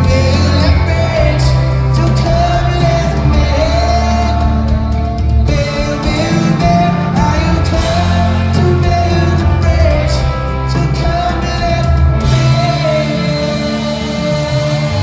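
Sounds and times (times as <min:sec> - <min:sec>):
drums: 0:00.0 - 0:15.0
electric guitar: 0:00.0 - 0:15.0
man singing: 0:00.0 - 0:15.0.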